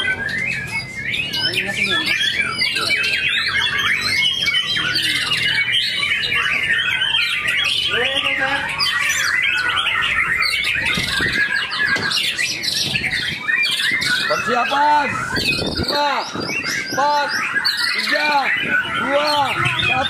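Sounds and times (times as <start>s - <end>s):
many songbirds singing: 0.0s - 20.0s.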